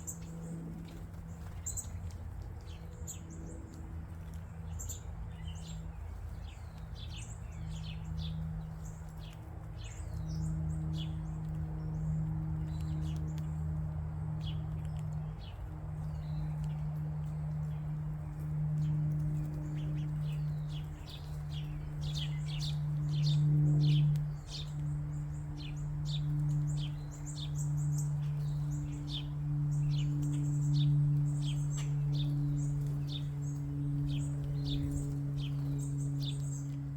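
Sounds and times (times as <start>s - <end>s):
songbirds chirping: 0.0s - 36.9s
steady low hum: 0.0s - 36.9s.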